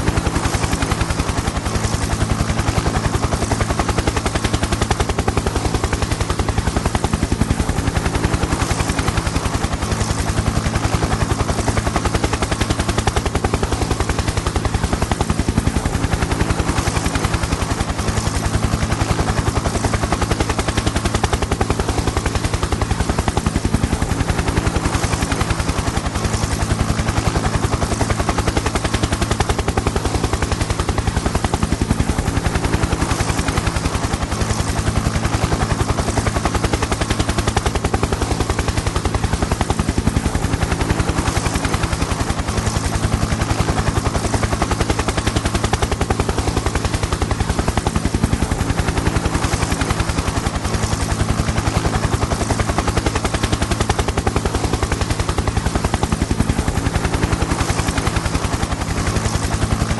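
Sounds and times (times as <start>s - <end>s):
helicopter engine drone: 0.0s - 59.9s
helicopter rotor chopping: 0.0s - 59.9s.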